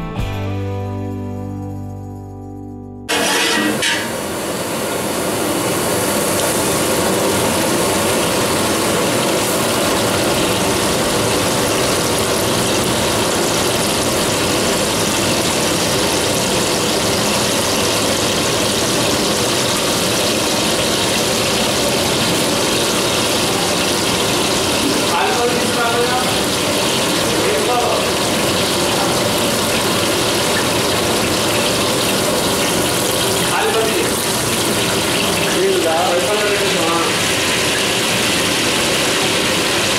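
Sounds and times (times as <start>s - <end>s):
gas burner roaring: 3.1s - 39.9s.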